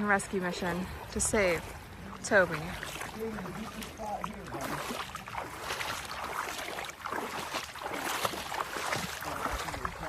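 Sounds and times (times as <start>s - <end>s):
water splashing from wading: 0.0s - 10.0s.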